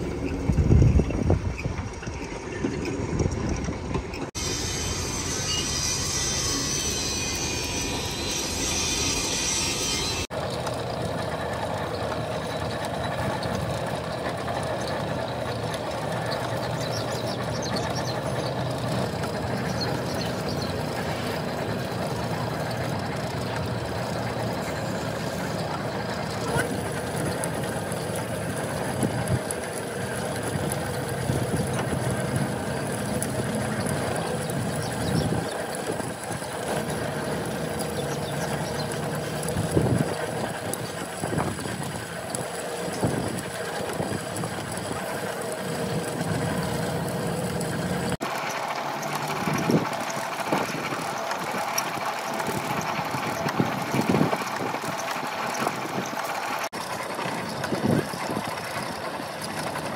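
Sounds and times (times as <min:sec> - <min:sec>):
machine running: 0:00.0 - 0:59.9.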